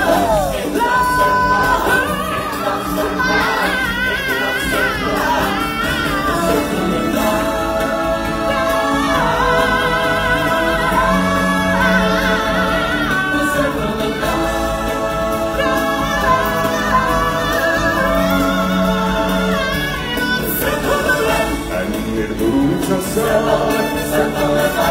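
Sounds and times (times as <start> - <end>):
amplified backing music: 0.0 - 24.9
choir-like ensemble: 0.0 - 24.9
singers holding long notes: 0.0 - 24.9.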